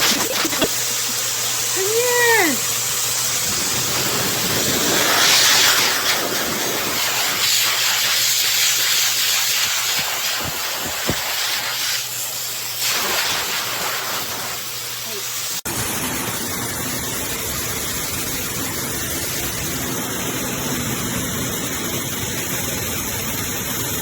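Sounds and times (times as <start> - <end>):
pet dryer blowing air: 0.0 - 24.0.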